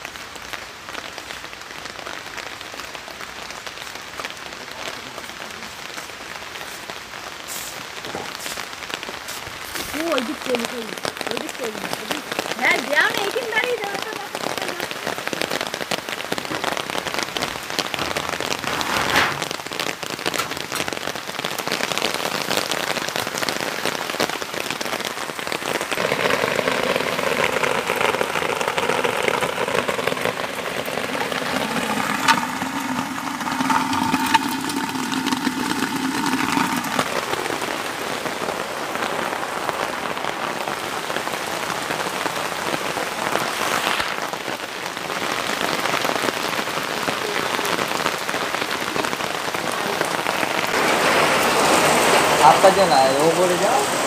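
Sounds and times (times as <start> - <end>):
rain hissing on wet ground: 0.0 - 54.0.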